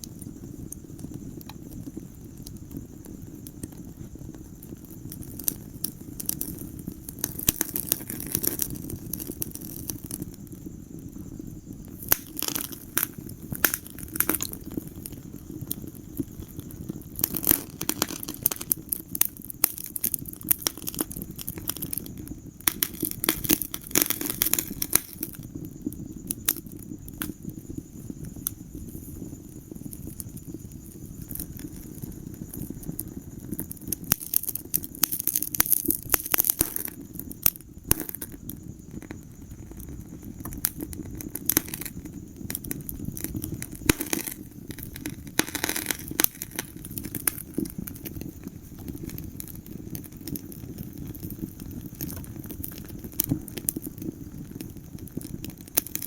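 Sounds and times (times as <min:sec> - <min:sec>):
fire crackles and pops: 0:00.0 - 0:56.0
fire low rumble: 0:00.0 - 0:56.0.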